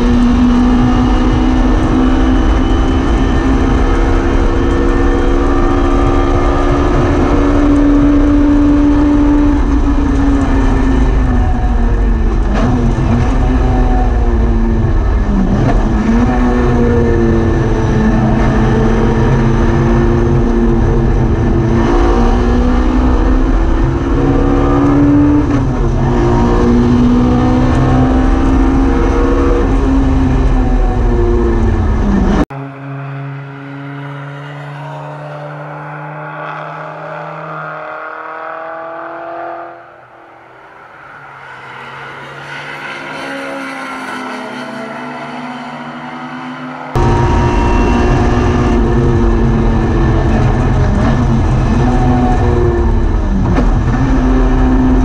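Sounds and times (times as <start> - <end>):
race car engine revving: 0.0 - 55.0
race car passing: 0.0 - 55.0.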